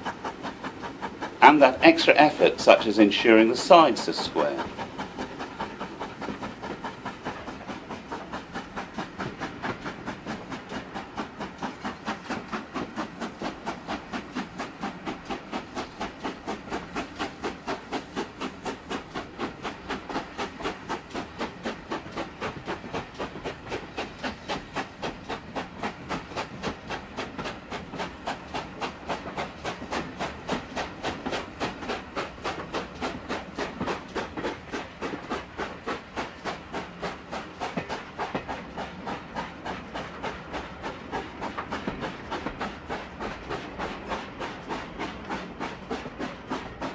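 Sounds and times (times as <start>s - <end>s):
steam locomotive chuffing: 0.0s - 46.9s.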